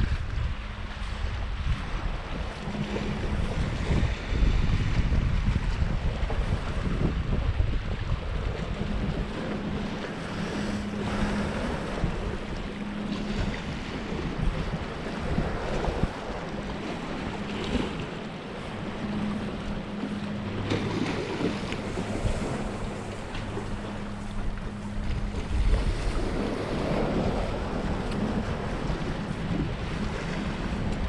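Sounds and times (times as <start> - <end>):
waves lapping against rocks: 0.0 - 31.0
wind buffeting microphone: 0.0 - 31.0.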